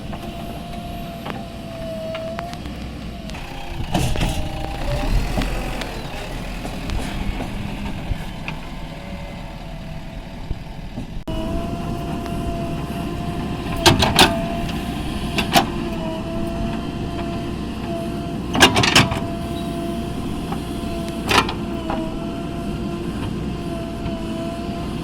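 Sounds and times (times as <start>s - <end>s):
diesel engine running: 0.0s - 25.0s
steady whine: 0.0s - 25.0s.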